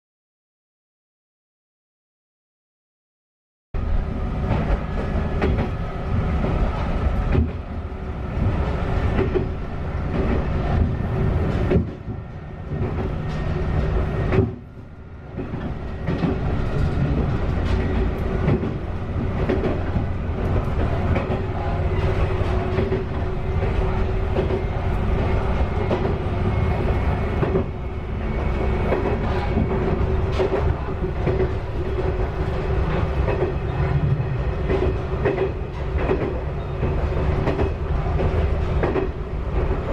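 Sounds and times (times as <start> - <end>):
diesel railcar engine rumble: 3.8 - 39.9
rail-joint clatter: 4.4 - 39.9.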